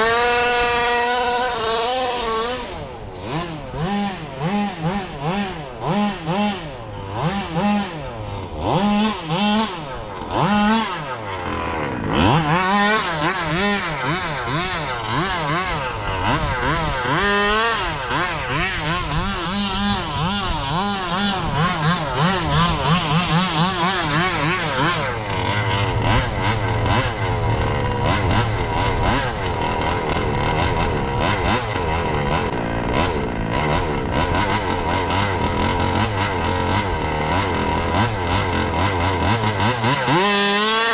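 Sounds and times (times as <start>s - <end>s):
small two-stroke engine revving: 0.0s - 40.9s.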